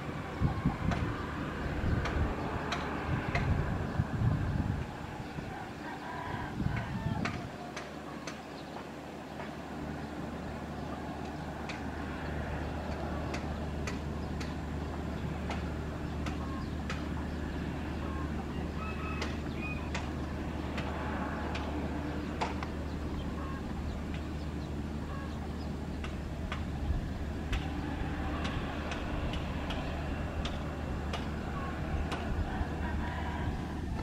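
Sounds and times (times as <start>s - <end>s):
jet engines humming: 0.0s - 34.0s
bird calls: 5.2s - 34.0s.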